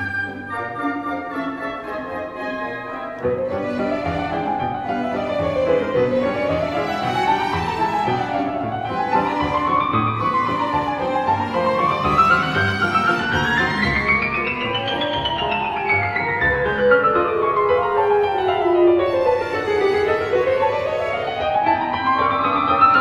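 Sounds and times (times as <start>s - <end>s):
piano and orchestral strings: 0.0s - 23.0s.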